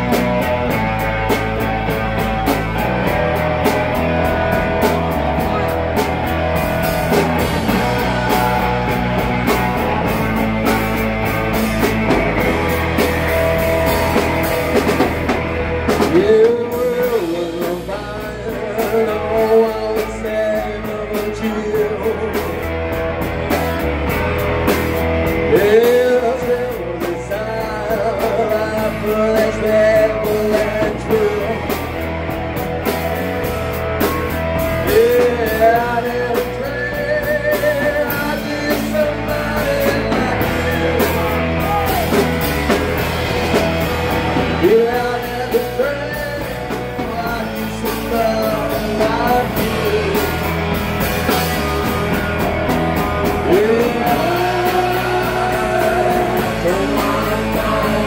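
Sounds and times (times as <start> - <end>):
live rock band playing: 0.0 - 58.0
person singing: 2.4 - 32.1, 32.9 - 58.0.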